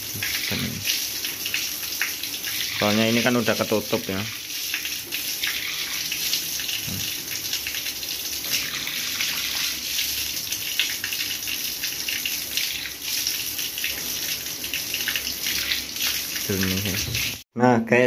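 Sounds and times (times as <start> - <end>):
water gushing from pump outlet: 0.0 - 17.4.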